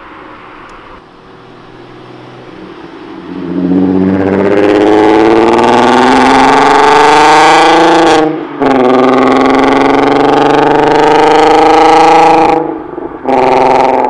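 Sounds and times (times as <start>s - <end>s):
car engine accelerating hard: 1.0s - 14.0s.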